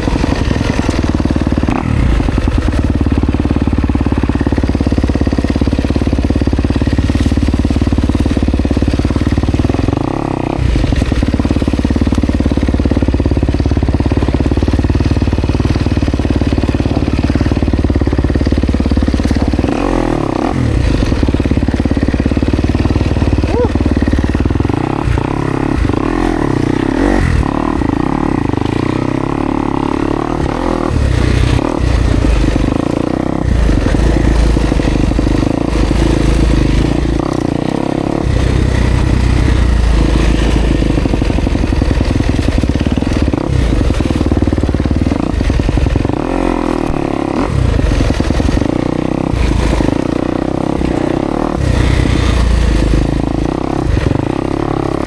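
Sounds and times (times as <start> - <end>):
dirt bike engine revving: 0.0 - 55.0
knocks and clatter from bike: 0.0 - 55.0.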